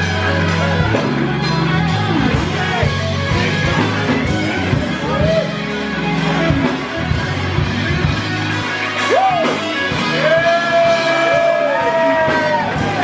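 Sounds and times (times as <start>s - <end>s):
blues band playing: 0.0s - 13.0s.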